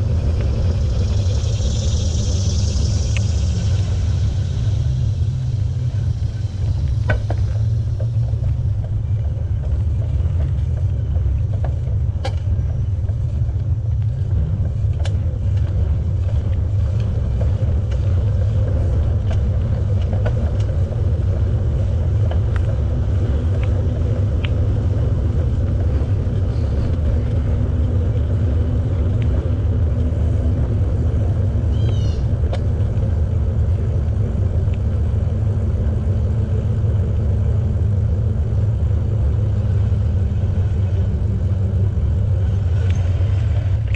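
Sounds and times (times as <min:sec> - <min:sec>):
bicycle ticks and rattles: 0:00.0 - 0:43.9
wind rumbling on microphone: 0:00.0 - 0:43.9.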